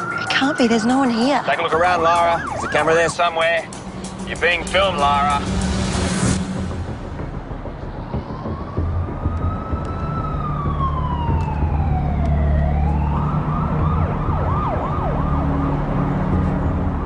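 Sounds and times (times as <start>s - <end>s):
emergency vehicle siren: 0.0s - 17.0s
low steady drone: 1.8s - 17.0s.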